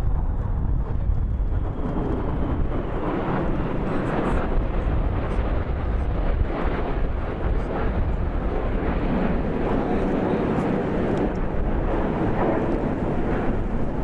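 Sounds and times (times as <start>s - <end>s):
jet aircraft flying over: 0.0s - 14.0s.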